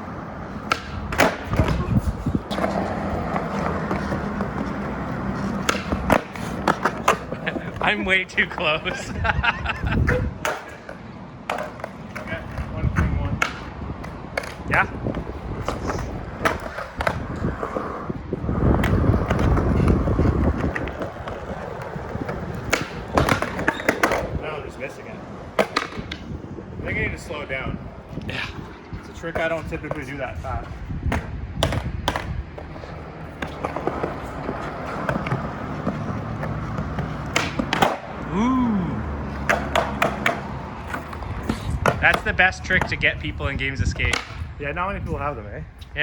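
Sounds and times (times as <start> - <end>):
skateboard rolling on pavement: 0.0 - 46.0
skateboard clacks: 0.5 - 9.0, 9.9 - 26.3, 29.1 - 38.3, 39.2 - 44.5.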